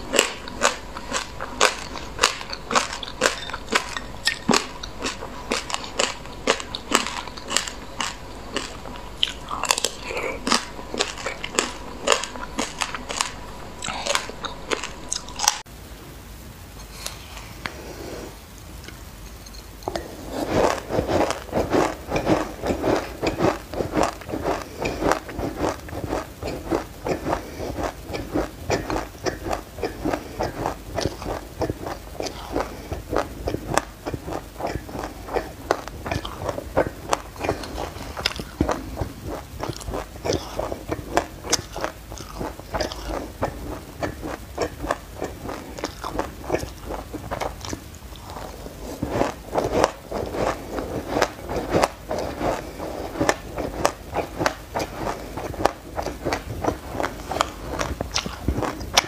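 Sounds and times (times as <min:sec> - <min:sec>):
crunchy chewing: 0:00.0 - 0:15.7, 0:19.8 - 0:59.0.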